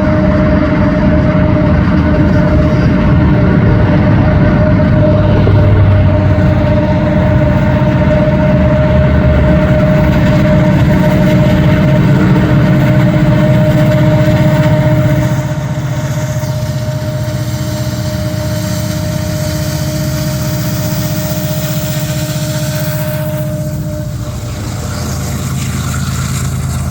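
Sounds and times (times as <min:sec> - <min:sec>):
diesel locomotive engines: 0:00.0 - 0:26.9
steady engine whine: 0:00.0 - 0:26.9
train rumble: 0:00.0 - 0:26.9.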